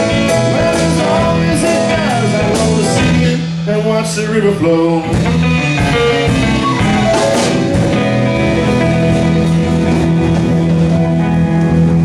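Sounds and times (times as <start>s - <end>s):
electric guitar: 0.0s - 12.0s
live blues rock band: 0.0s - 12.0s.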